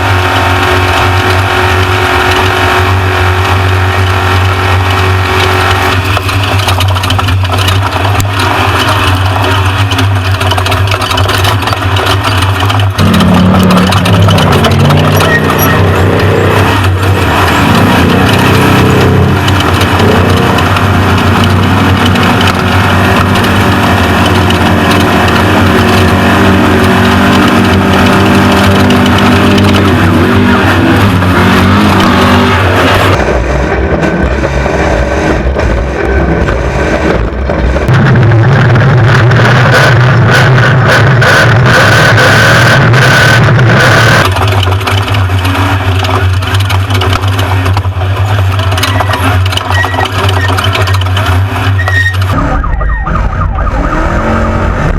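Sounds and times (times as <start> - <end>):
truck engine running hard: 0.0 - 54.9.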